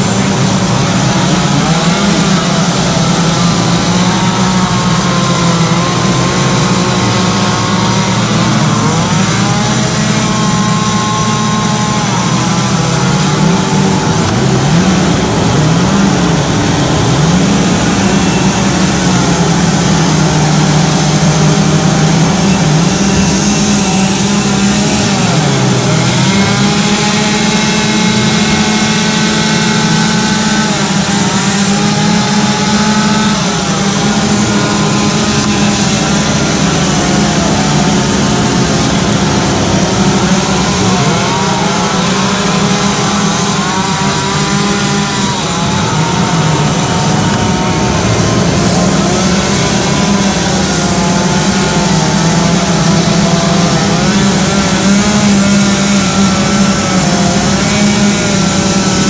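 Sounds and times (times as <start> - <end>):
chainsaws revving and cutting wood: 0.0 - 59.0.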